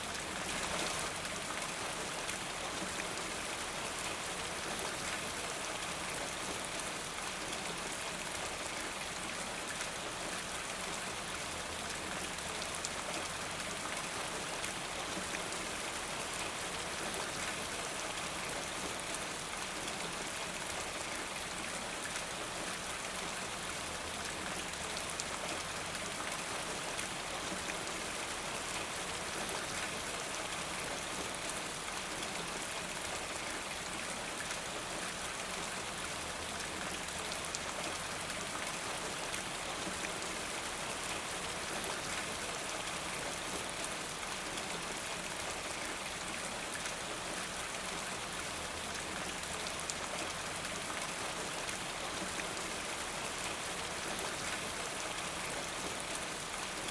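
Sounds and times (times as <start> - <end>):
steady rain patter: 0.0 - 56.9.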